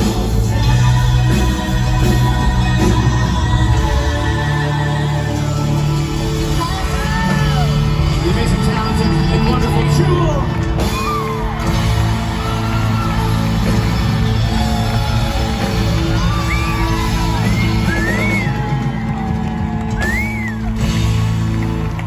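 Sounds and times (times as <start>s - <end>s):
crowd whooping and yelling: 0.0s - 22.0s
live rock band playing: 0.0s - 22.0s.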